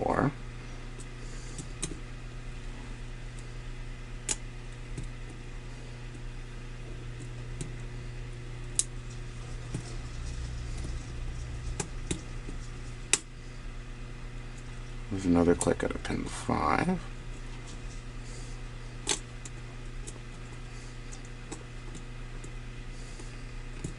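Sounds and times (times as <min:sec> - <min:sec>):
electrical hum: 0:00.0 - 0:23.9.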